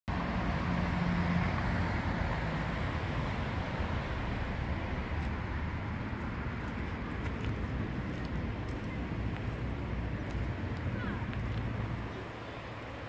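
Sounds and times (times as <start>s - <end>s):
street noise: 0.1s - 13.0s.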